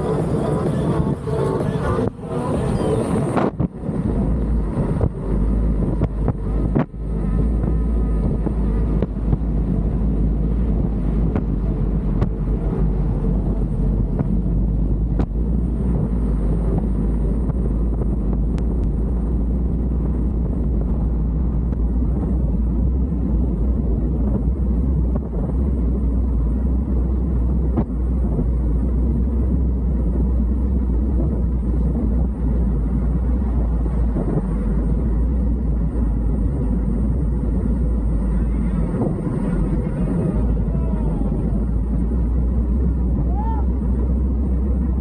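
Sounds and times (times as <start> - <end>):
wind and road rumble: 0.0 - 45.0.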